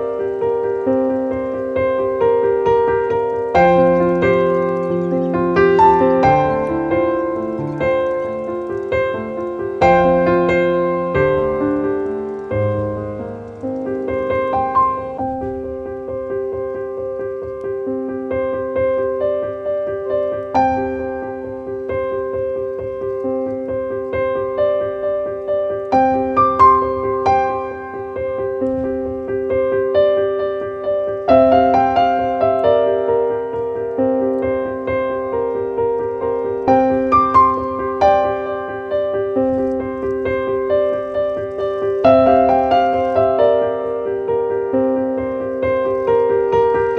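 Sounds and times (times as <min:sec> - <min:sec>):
gentle piano music: 0:00.0 - 0:46.9.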